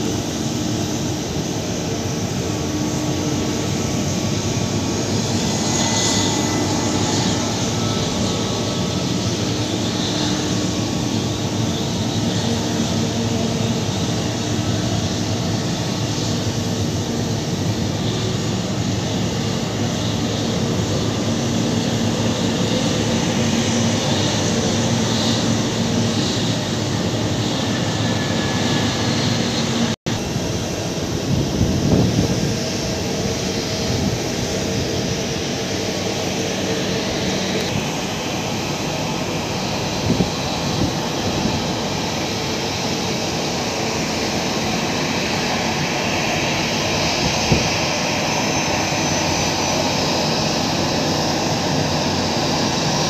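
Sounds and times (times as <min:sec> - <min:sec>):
jet engines at taxi thrust: 0:00.0 - 0:53.0.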